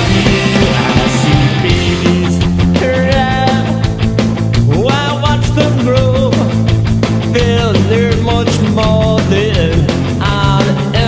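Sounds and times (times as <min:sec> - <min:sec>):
song with steady drum beat: 0:00.0 - 0:11.0
sustained bass notes: 0:00.0 - 0:11.0.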